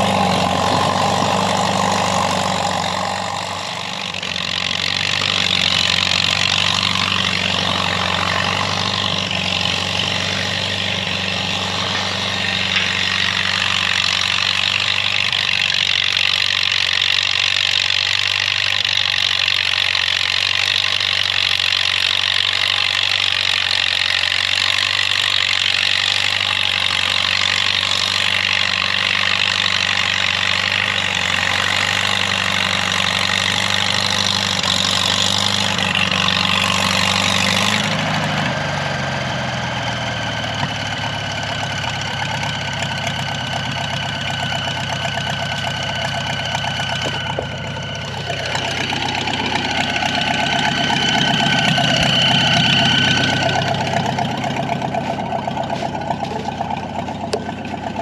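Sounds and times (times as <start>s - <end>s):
crawler tractor engine running: 0.0s - 58.0s.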